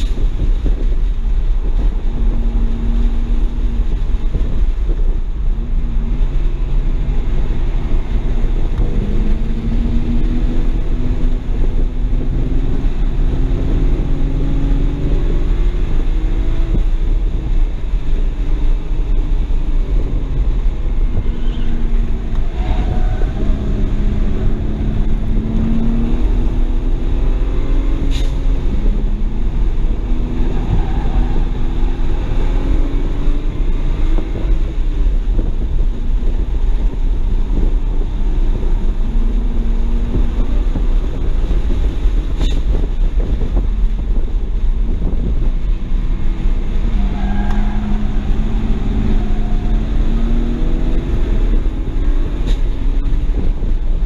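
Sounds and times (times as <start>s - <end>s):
car engine revving: 0.0s - 54.0s
road and wind rumble: 0.0s - 54.0s.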